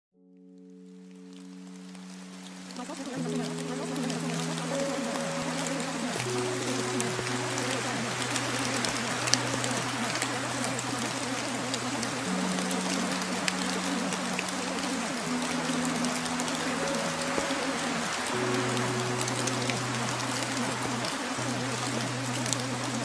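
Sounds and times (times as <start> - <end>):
soft low music chords: 0.2 - 23.0
steady rain: 0.3 - 23.0
raindrop ticks: 0.4 - 23.0.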